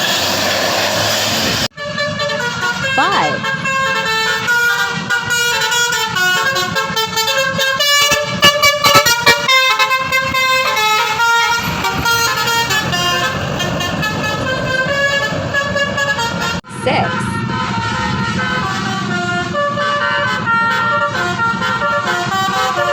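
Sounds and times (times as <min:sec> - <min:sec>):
bus air horns playing a tune: 0:00.0 - 0:22.9
engine and road noise: 0:00.0 - 0:22.9.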